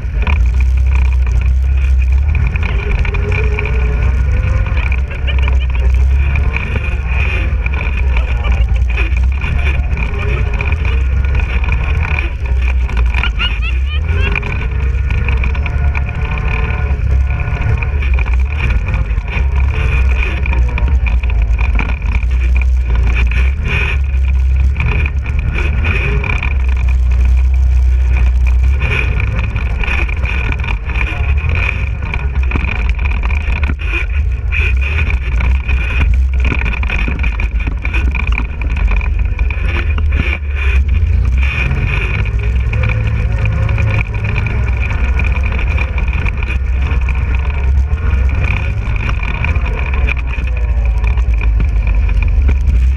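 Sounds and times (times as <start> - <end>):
knocks and rattles from bumps: 0.0 - 52.9
quad engine running: 0.0 - 52.9.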